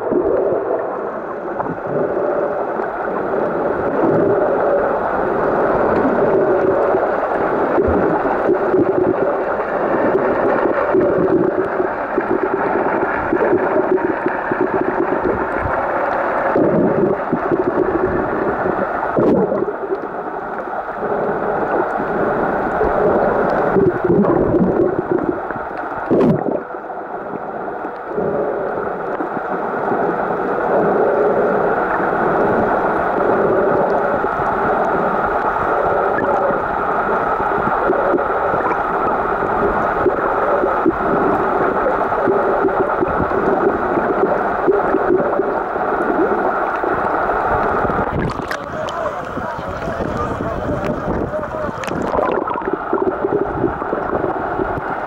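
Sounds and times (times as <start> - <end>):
underwater rushing hum: 0.0 - 55.0.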